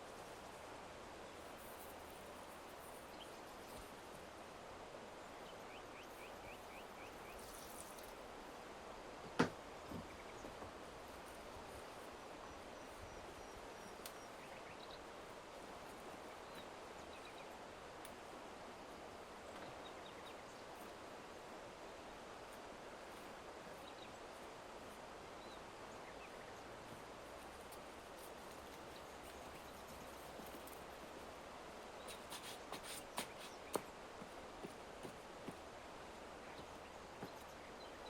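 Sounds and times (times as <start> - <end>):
steady outdoor hiss: 0.0 - 38.0.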